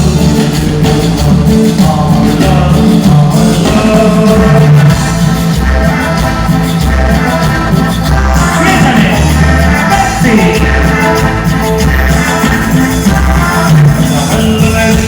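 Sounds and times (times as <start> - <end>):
latin band playing live: 0.0 - 15.0.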